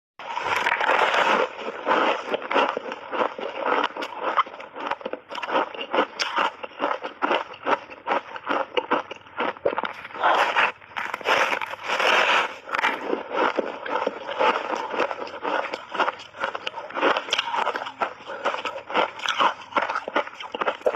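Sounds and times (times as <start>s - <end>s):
crunching ice cake: 0.2s - 20.9s.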